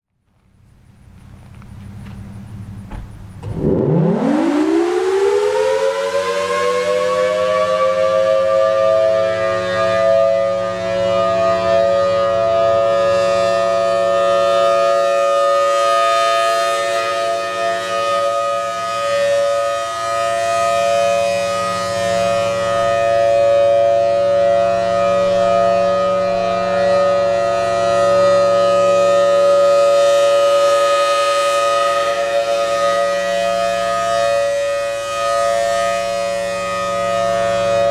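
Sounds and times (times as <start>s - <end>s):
outdoor warning siren: 0.4s - 37.9s.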